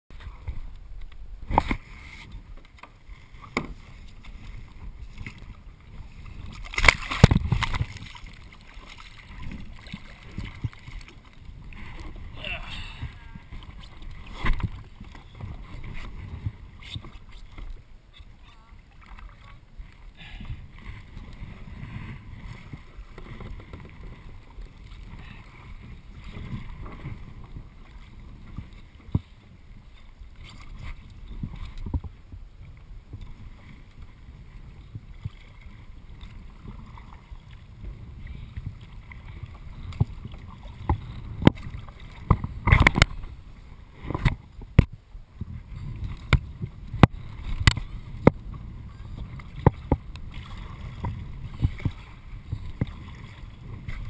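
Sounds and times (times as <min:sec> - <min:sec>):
paddle splashing in water: 0:00.1 - 0:54.0.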